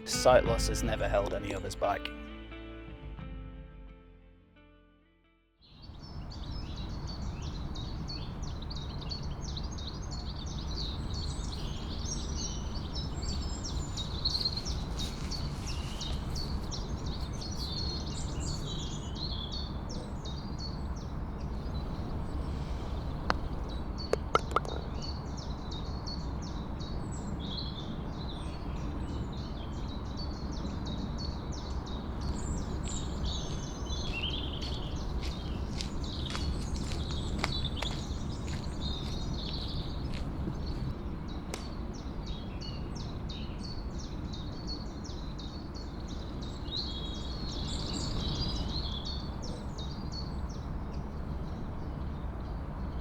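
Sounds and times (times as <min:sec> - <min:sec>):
small birds chirping: 0:05.8 - 0:53.0.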